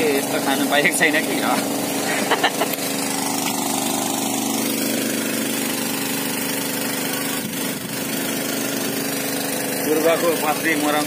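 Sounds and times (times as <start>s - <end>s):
small generator engine running: 0.0s - 11.0s.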